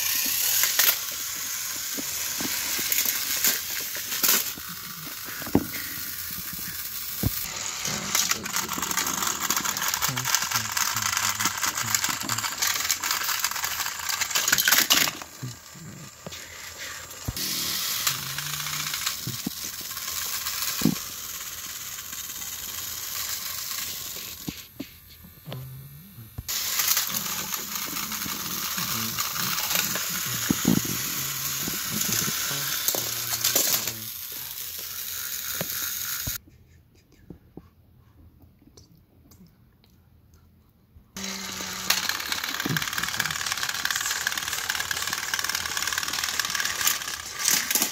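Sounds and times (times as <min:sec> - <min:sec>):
toy train motors whirring: 0:00.0 - 0:36.4, 0:41.2 - 0:47.9.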